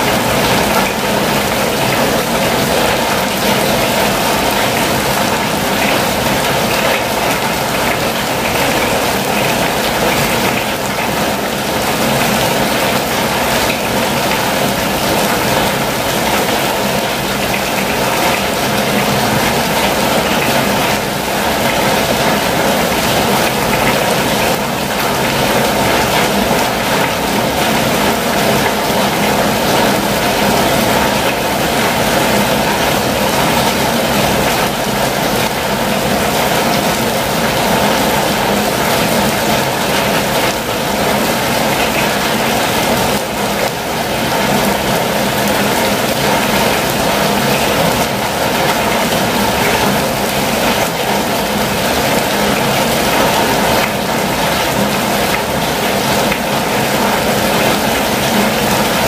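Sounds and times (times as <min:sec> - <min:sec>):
heavy rain on vehicle roof: 0:00.0 - 0:59.0.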